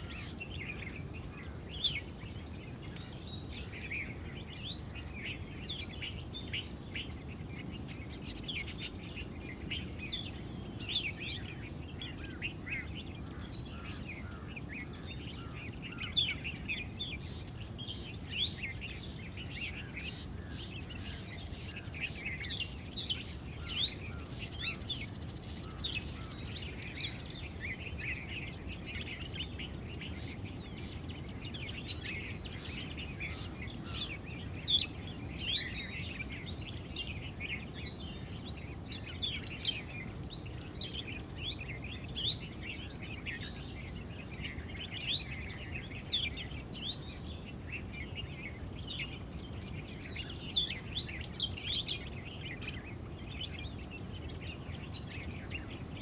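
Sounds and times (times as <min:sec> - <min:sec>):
many small birds chirping: 0:00.0 - 0:56.0.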